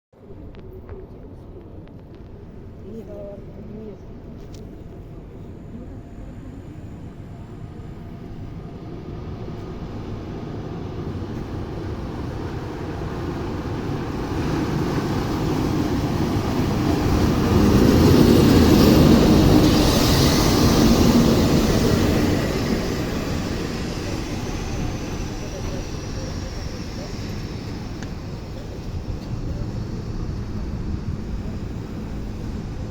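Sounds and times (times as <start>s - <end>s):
electric locomotive passing: 0.2s - 32.9s.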